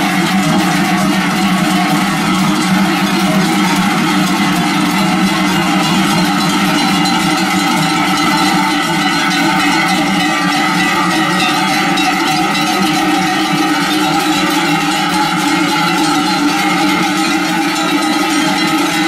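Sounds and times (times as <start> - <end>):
cowbells clanging: 0.0 - 19.0.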